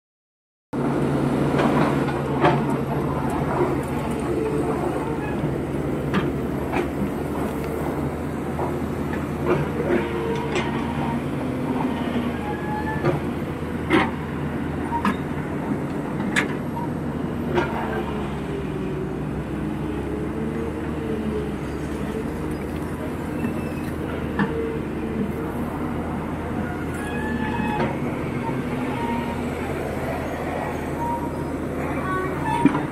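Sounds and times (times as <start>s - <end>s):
excavator diesel engine: 0.8s - 32.9s.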